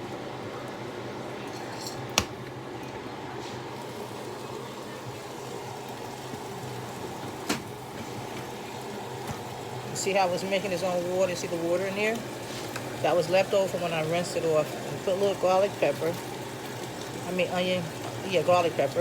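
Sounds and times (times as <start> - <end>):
kitchen hum and hiss: 0.0 - 19.0.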